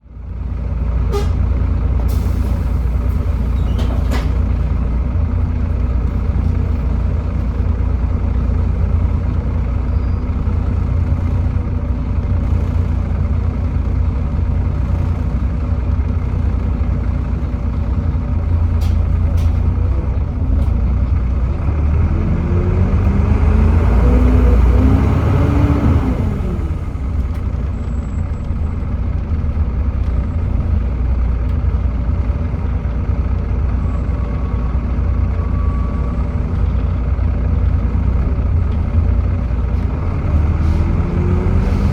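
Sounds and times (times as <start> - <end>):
diesel bus engine rumbling: 0.0 - 41.9.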